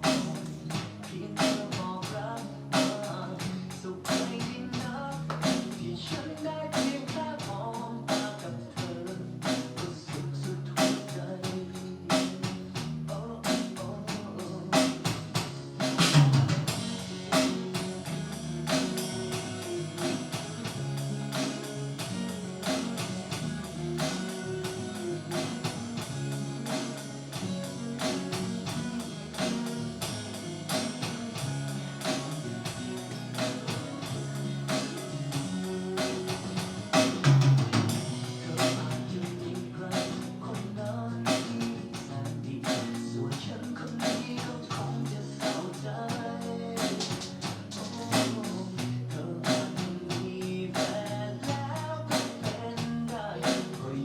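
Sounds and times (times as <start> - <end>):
drum kit beat: 0.0 - 54.0.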